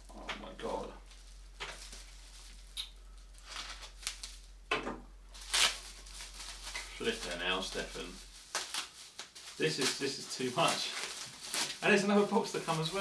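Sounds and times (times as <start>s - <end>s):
paper wrapping rustling: 0.4s - 4.6s, 5.3s - 13.0s.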